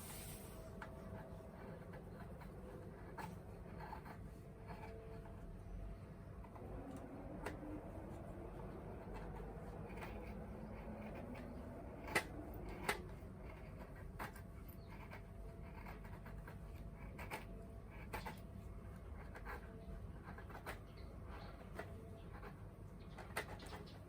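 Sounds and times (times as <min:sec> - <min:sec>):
low steady rumble: 0:00.0 - 0:23.5.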